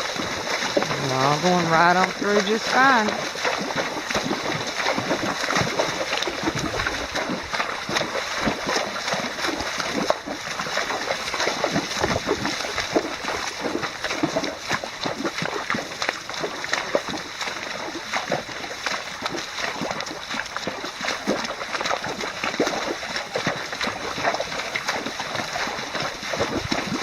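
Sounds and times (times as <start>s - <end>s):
hooves splashing through water: 0.0s - 27.0s
rushing creek water: 0.0s - 27.0s.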